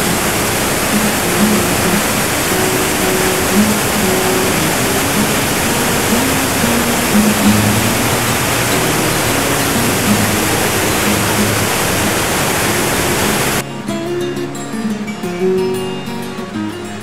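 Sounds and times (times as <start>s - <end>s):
waterfall rushing: 0.0s - 13.6s
plucked guitar music: 0.0s - 17.0s.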